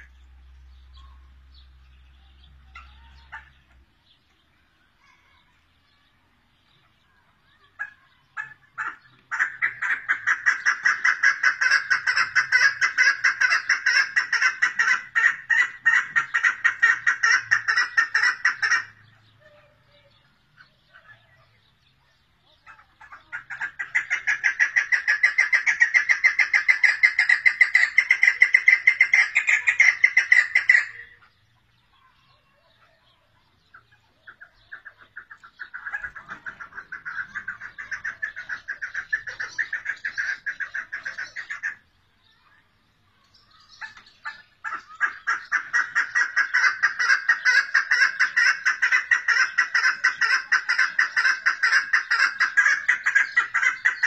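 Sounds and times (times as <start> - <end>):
partridge calling: 0.0 - 54.0.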